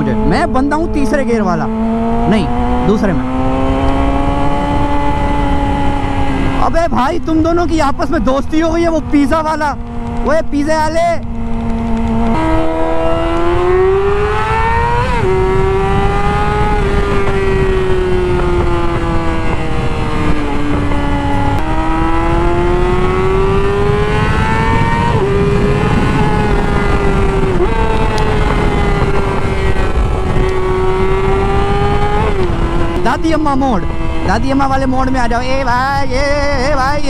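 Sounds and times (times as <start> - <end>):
motorcycle engine revving: 0.0 - 37.0
wind rumble: 0.0 - 37.0.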